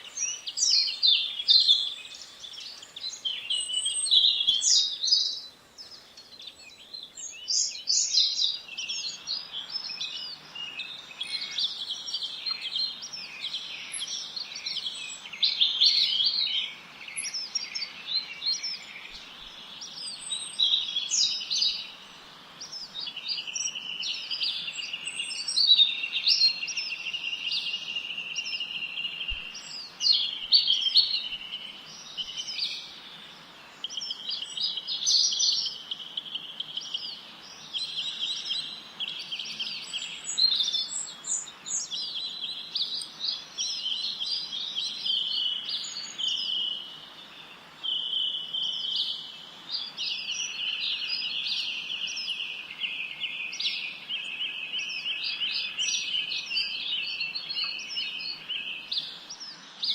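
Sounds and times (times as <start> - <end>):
songbirds trilling and chirping: 0.0 - 59.9.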